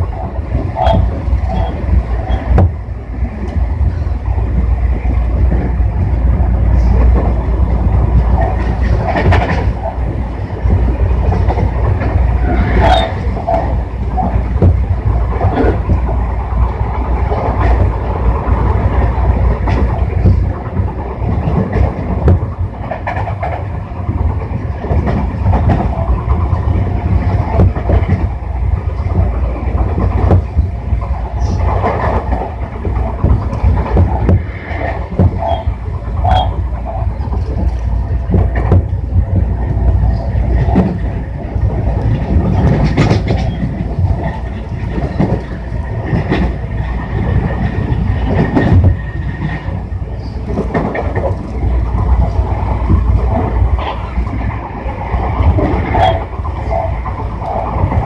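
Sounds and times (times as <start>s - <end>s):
wheels clicking over rail joints: 0.0s - 4.1s, 6.7s - 58.0s
train wheels rumbling on rail: 0.0s - 58.0s.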